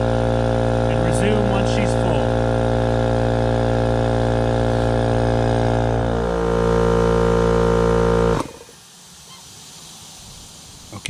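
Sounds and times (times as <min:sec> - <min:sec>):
air compressor running: 0:00.0 - 0:10.6.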